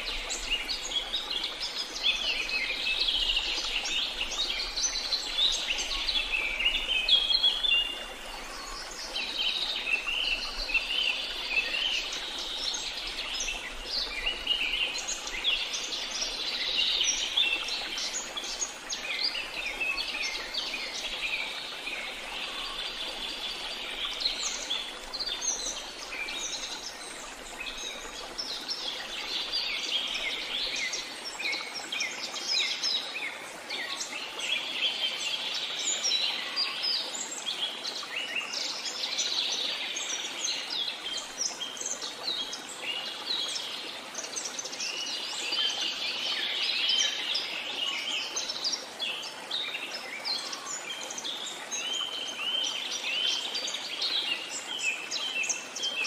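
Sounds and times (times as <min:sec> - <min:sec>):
rush of falling water: 0:00.0 - 0:56.0.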